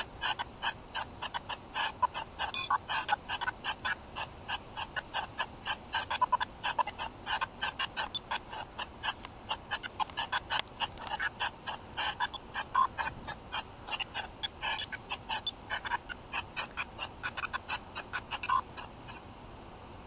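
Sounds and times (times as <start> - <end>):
clipped electronic blips: 0.0 - 19.2.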